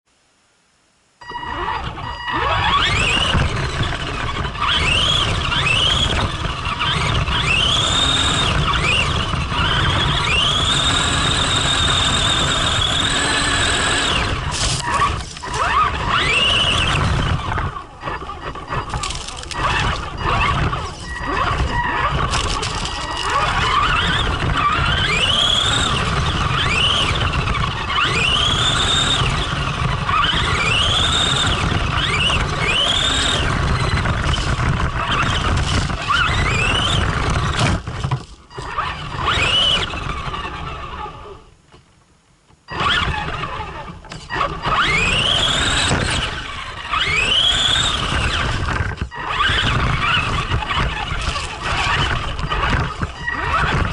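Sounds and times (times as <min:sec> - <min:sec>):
electric motor whining: 0:01.2 - 0:41.5, 0:42.7 - 0:53.9.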